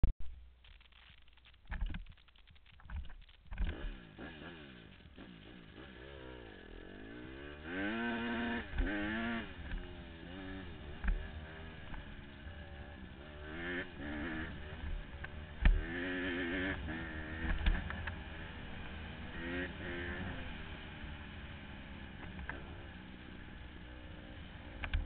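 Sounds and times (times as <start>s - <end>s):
dirt bike engine revving: 3.6s - 25.0s.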